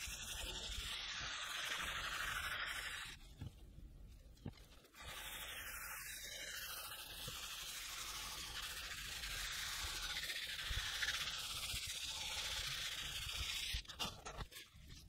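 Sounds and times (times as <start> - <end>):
dauber scrubbing leather: 0.0 - 3.4, 4.8 - 14.0.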